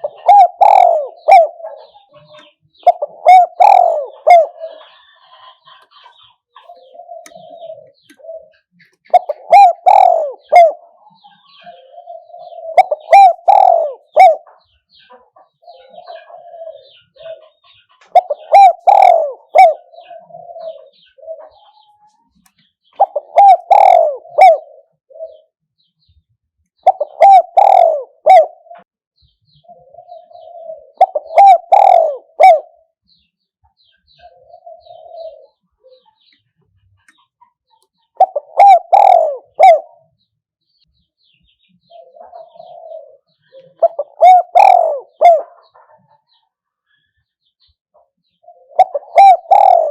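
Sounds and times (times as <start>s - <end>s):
dove cooing: 0.0s - 22.1s, 22.9s - 25.6s, 26.8s - 28.9s, 29.6s - 32.9s, 34.1s - 37.0s, 38.1s - 40.2s, 41.8s - 46.4s, 48.4s - 49.9s.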